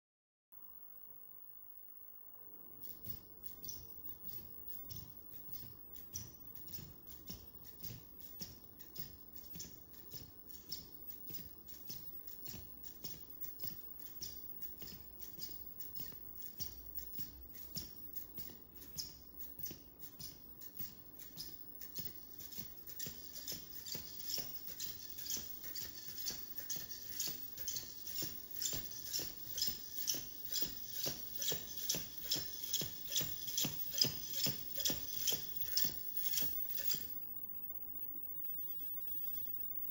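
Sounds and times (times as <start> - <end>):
robot feet tapping on hard floor: 2.8 - 37.1
robot servos clicking: 2.8 - 37.2.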